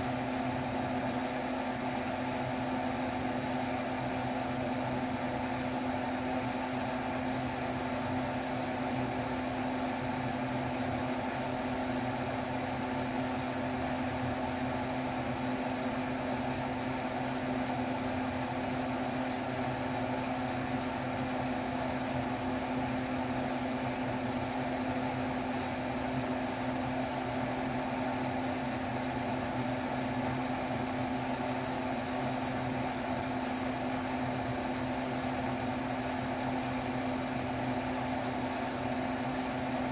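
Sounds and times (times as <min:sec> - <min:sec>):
electric fan humming: 0:00.0 - 0:39.9.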